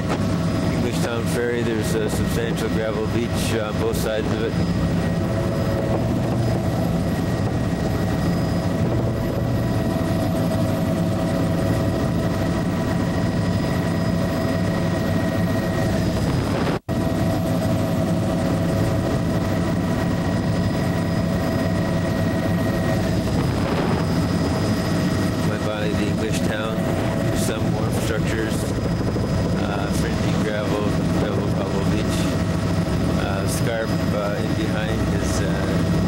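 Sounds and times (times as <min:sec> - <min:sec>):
aircraft engine drone in cabin: 0:00.0 - 0:36.0.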